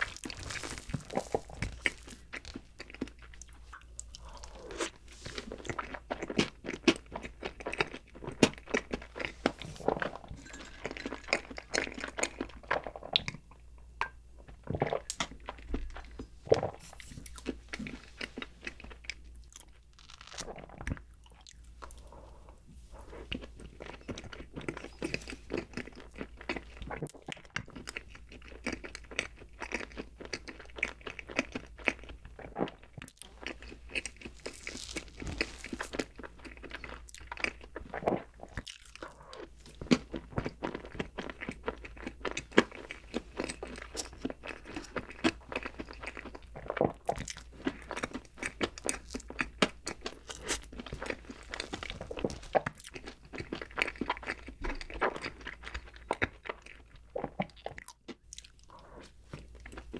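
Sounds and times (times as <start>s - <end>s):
mouth chewing cake: 0.0s - 13.6s, 14.5s - 59.9s.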